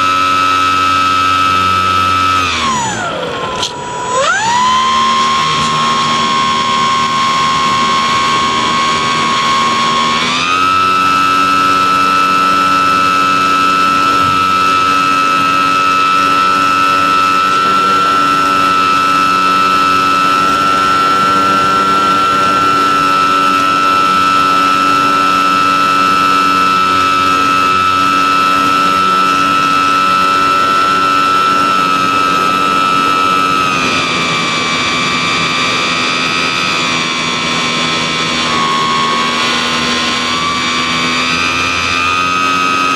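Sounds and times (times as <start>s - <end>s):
electric motor and propeller whining: 0.0s - 42.9s.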